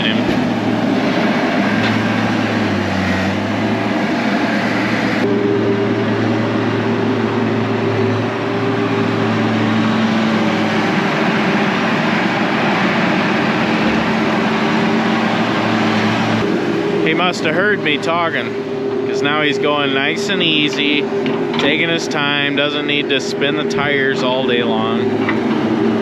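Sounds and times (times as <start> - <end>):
loader engine droning under load: 0.0 - 26.0.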